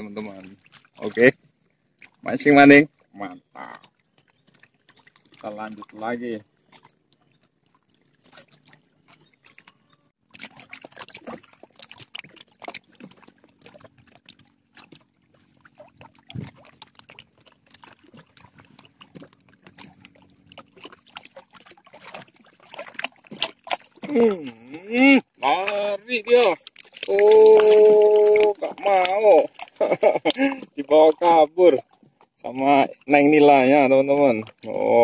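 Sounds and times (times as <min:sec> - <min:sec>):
small splashes: 0:00.0 - 0:35.0
water lapping and trickling: 0:00.0 - 0:35.0.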